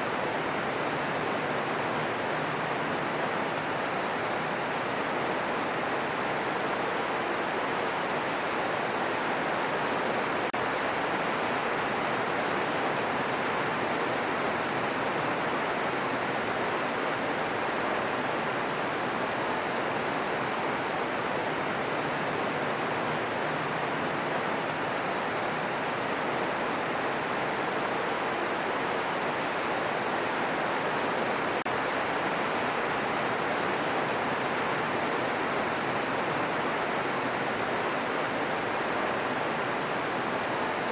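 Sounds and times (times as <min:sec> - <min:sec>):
steady green noise hiss: 0:00.0 - 0:40.9.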